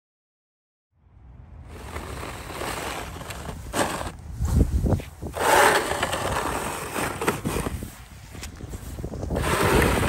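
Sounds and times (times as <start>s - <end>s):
snow shovel scraping pavement: 1.7s - 10.0s.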